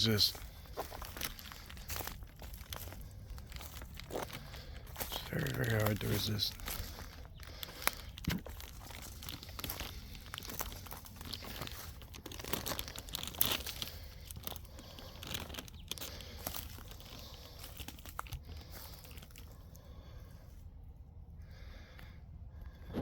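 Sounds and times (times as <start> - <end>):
footsteps crunching dry leaves: 0.0 - 20.2.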